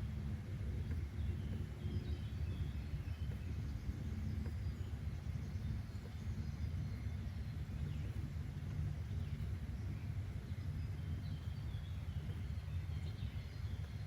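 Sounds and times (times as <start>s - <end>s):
low rumble: 0.0s - 14.0s
bird chirps: 0.6s - 14.0s.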